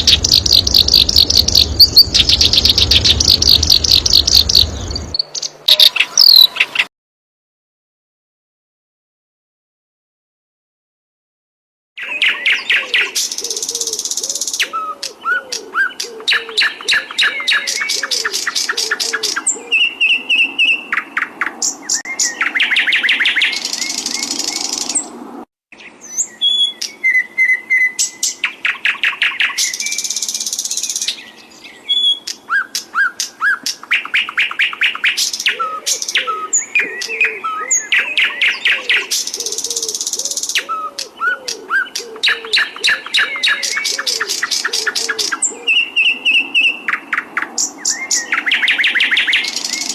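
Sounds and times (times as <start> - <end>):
songbirds trilling and chirping: 0.0 - 6.9, 12.0 - 25.2, 25.8 - 49.9.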